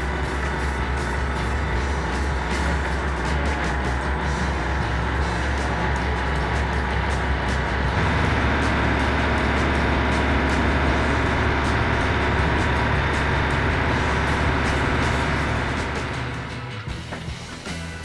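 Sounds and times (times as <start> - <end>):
diesel engine droning: 0.0 - 17.5.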